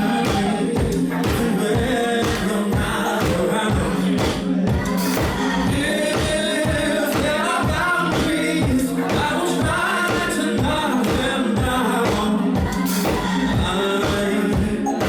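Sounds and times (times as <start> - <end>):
dance-pop song with vocals: 0.0 - 15.0
four-on-the-floor kick drum: 0.2 - 14.8.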